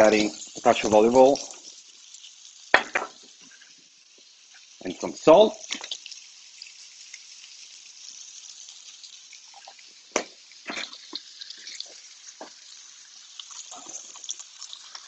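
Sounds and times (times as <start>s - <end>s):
steak sizzling in a frying pan: 0.0s - 15.0s.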